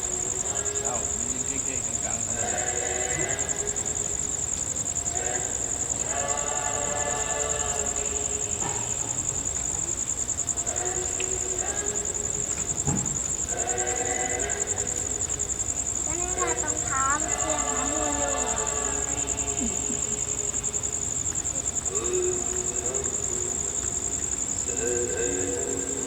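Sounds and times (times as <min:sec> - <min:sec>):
crickets chirping: 0:00.0 - 0:26.0
group of people singing held tones: 0:00.0 - 0:26.0.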